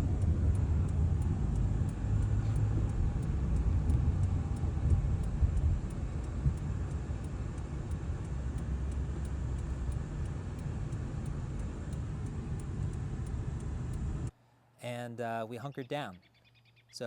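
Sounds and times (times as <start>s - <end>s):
car road and engine rumble: 0.0s - 14.4s
faint regular ticking: 0.0s - 14.4s.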